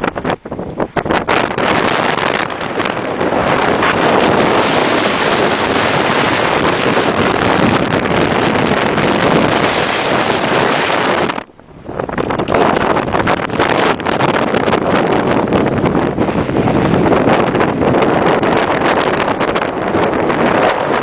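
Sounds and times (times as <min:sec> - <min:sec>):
blizzard wind buffeting microphone: 0:00.0 - 0:21.0.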